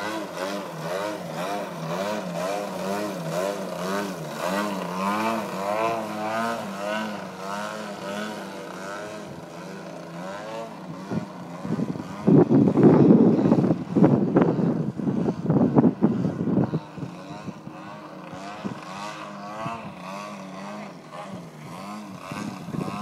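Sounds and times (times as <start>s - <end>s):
model airplane engine running: 0.0s - 23.0s.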